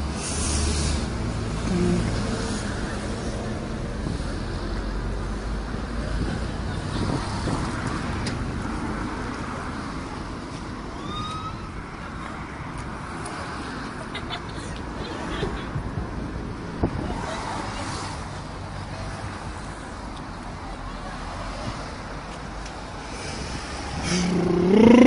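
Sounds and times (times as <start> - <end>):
passing cars rumbling: 0.0 - 25.0.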